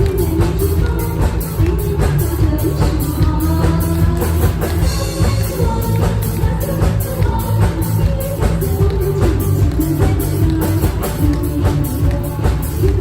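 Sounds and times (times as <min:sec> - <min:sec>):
drum kit beat: 0:00.0 - 0:13.0
live pop-rock band: 0:00.0 - 0:13.0
person singing: 0:00.0 - 0:13.0.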